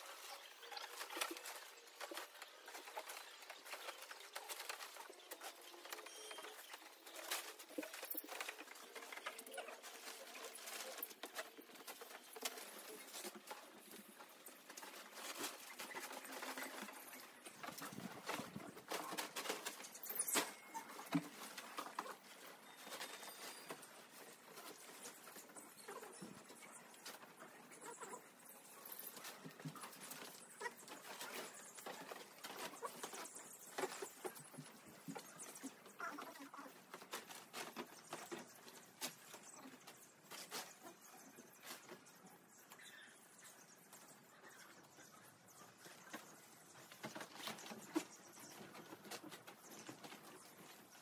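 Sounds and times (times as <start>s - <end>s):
tent poles and fabric clicking: 0.0s - 42.9s.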